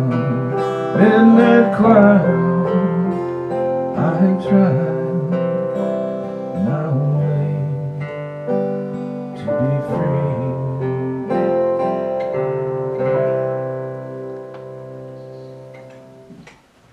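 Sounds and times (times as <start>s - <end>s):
strummed guitar chords: 0.0s - 16.9s.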